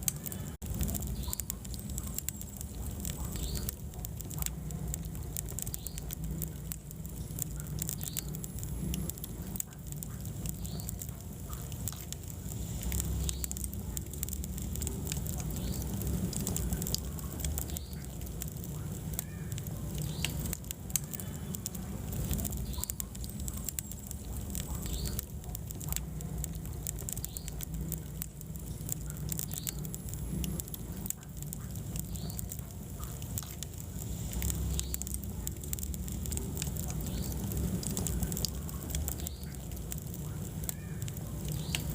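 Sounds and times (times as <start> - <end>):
low rumble of flames: 0.0 - 41.9
wood fire crackling: 0.0 - 41.9.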